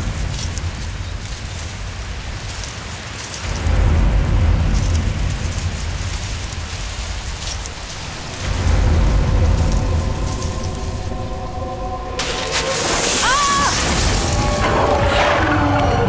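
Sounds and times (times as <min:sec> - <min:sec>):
steady hiss: 0:00.0 - 0:14.6
low suspense rumble: 0:00.0 - 0:16.0.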